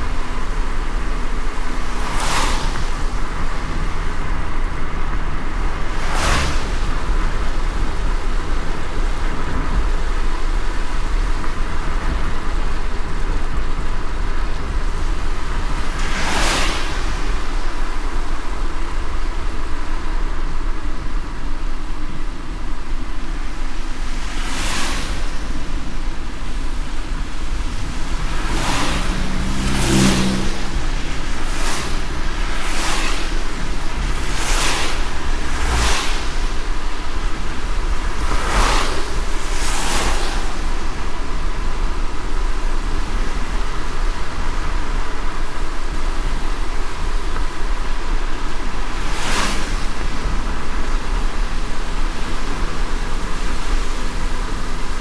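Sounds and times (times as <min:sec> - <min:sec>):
whoosh: 0:00.0 - 0:19.8, 0:23.4 - 0:55.0
car road rumble: 0:00.0 - 0:55.0
rain and tyres on wet road: 0:00.0 - 0:55.0.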